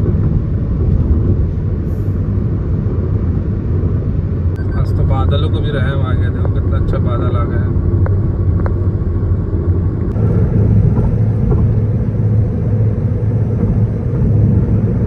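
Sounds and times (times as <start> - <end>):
car cruising on highway: 0.0 - 15.0.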